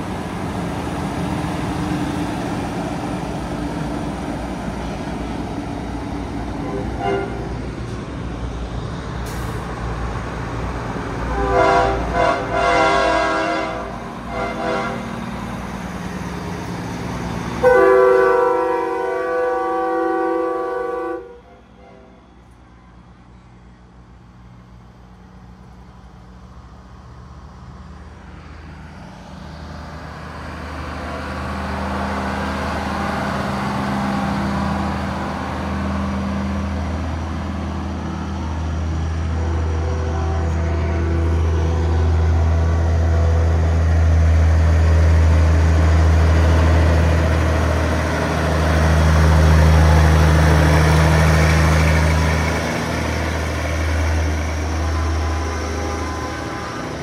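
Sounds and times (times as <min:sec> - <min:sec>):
truck engines rumbling: 0:00.0 - 0:57.0.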